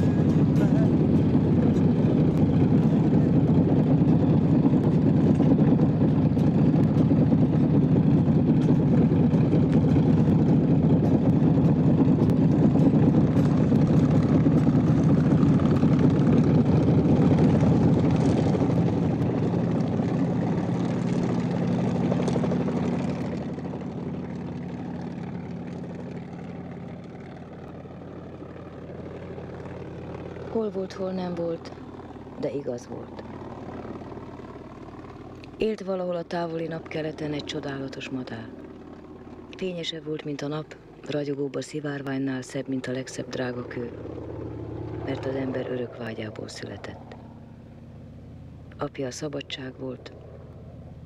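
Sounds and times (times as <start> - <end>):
helicopter engine and rotor: 0.0 - 51.0.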